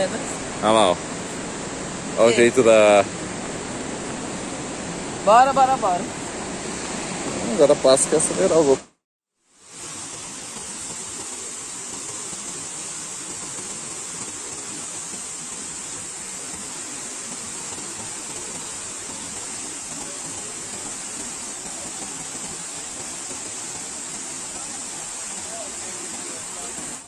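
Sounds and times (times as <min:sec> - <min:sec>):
waterfall rushing: 0:00.0 - 0:08.9, 0:09.6 - 0:27.0.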